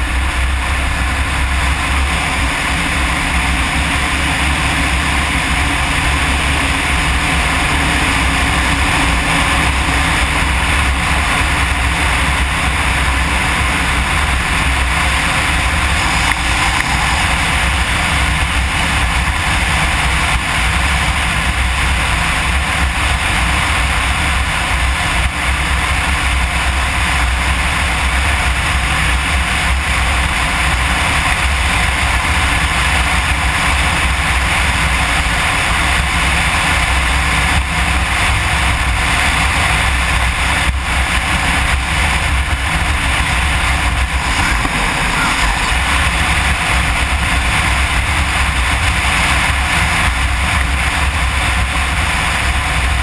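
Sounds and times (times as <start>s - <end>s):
motorcycle engine cruising: 0.0s - 53.0s
wind and road noise: 0.0s - 53.0s.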